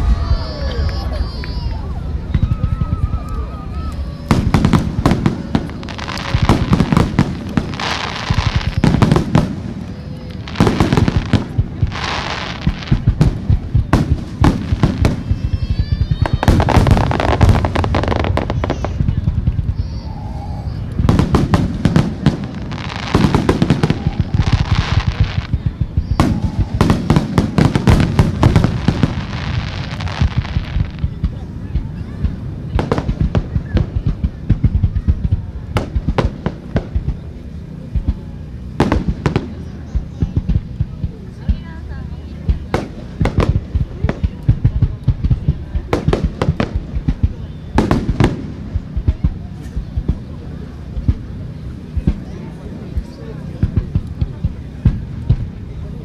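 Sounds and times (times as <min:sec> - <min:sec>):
fireworks bursts and crackles: 0:00.0 - 0:56.0.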